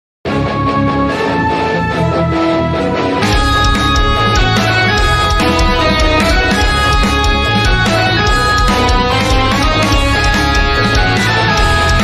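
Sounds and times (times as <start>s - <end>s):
music with held notes: 0.3s - 12.0s.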